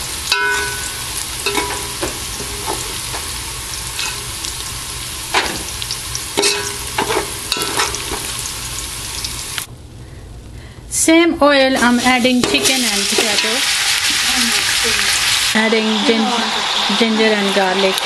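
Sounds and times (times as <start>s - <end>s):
onions sizzling in hot oil: 0.0s - 9.7s, 11.8s - 18.0s.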